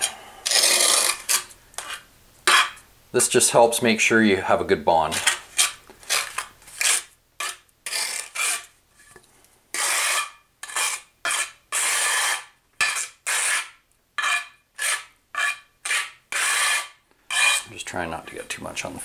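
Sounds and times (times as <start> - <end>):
trowel scraping mortar on tile: 0.0 - 2.8, 5.1 - 18.4.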